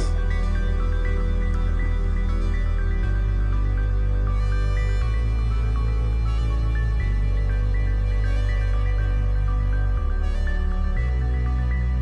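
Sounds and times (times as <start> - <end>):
calm electronic music: 0.0 - 12.0.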